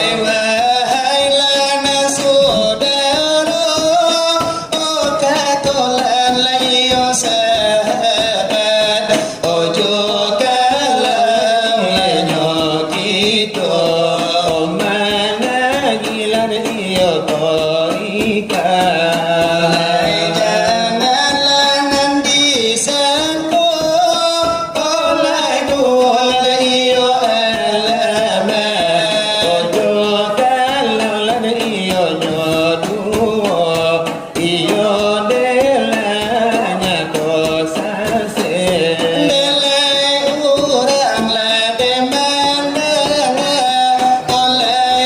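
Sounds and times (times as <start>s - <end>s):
percussion beating: 0.0s - 45.0s
voices singing religious chant: 0.0s - 45.0s.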